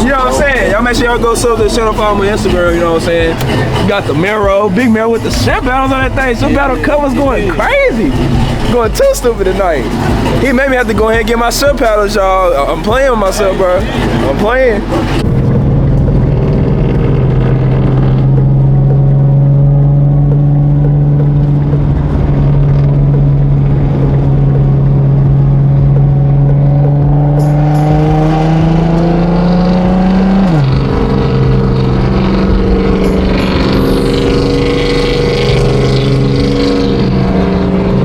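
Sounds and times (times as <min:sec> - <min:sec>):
car engine droning: 0:00.0 - 0:38.0.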